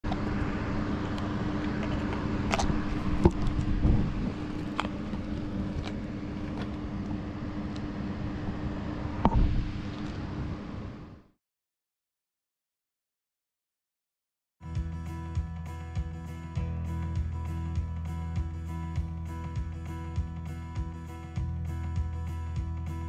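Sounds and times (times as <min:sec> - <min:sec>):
steady low hum: 0:00.0 - 0:11.3, 0:14.7 - 0:23.0.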